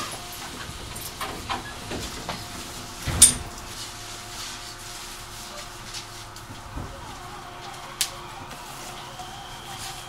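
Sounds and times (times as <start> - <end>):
train faint hum: 0.0 - 10.0.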